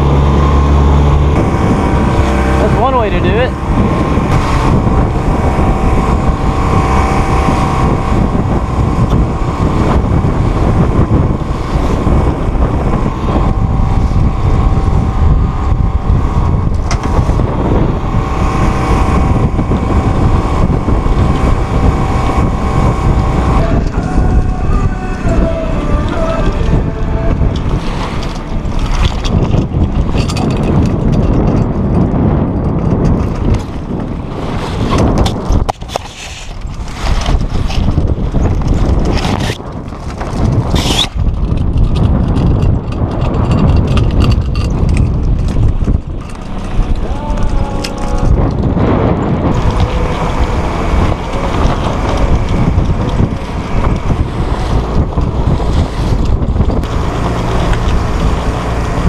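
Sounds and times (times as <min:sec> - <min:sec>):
water splashing along hull: 0:00.0 - 0:59.0
wind buffeting microphone: 0:00.0 - 0:59.0.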